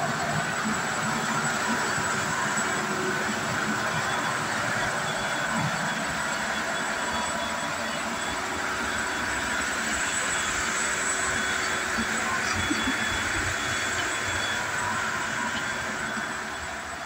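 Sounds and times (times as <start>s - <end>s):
engine room machinery: 0.0s - 17.0s
high-pitched whines: 0.0s - 17.0s.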